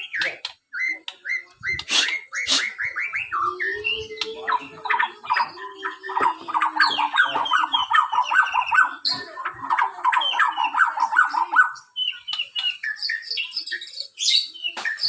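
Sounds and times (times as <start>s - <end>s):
bird singing rapid chirps: 0.0s - 15.0s.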